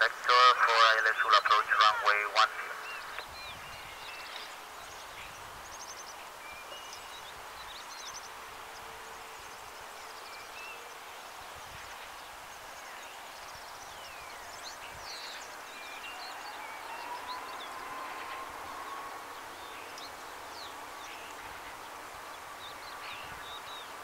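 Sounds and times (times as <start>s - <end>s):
distant jet taxiing hiss: 0.0s - 24.0s
small birds chirping: 0.0s - 24.0s.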